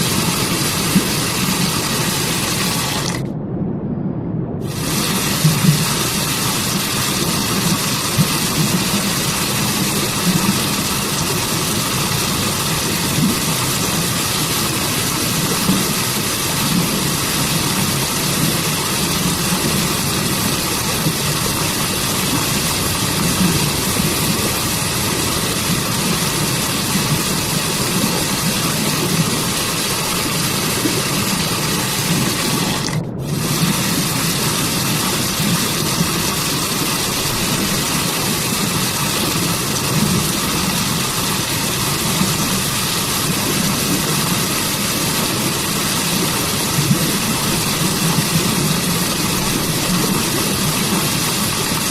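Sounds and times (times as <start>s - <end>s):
waterfall and stream rushing: 0.0s - 3.2s, 4.7s - 51.9s.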